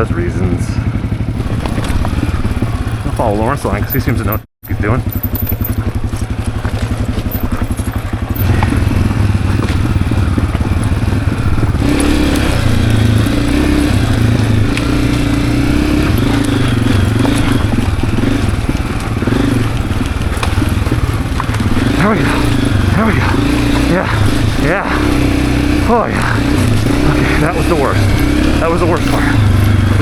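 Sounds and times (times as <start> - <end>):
dirt bike engine at low revs: 0.0 - 30.0.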